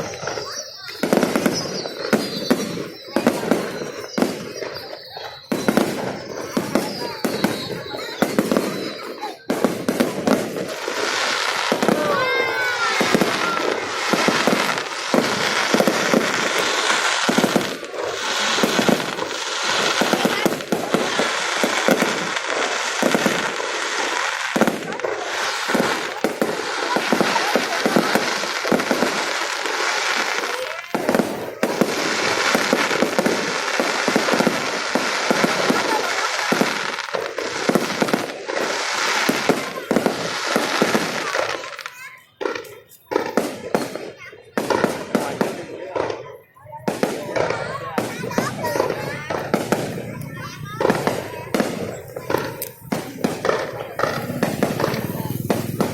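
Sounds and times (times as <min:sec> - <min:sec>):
fireworks crackling and popping: 0:00.0 - 0:55.9
whistling fireworks: 0:00.0 - 0:55.9.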